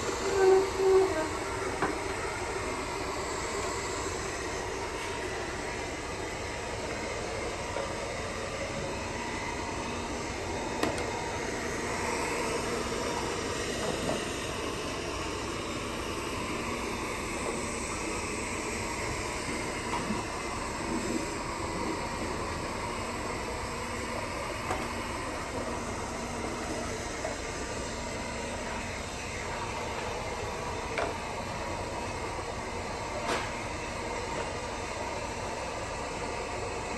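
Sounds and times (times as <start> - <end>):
robot vacuum whirring: 0.0 - 32.8.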